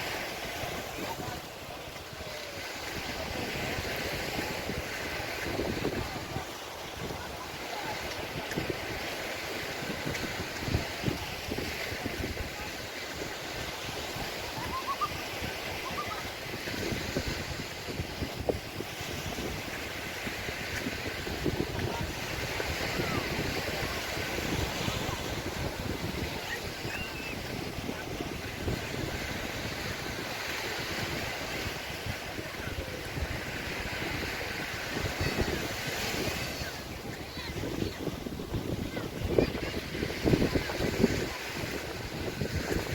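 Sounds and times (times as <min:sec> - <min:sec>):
sea waves washing on beach: 0:00.0 - 0:42.9
wind buffeting microphone: 0:00.0 - 0:42.9.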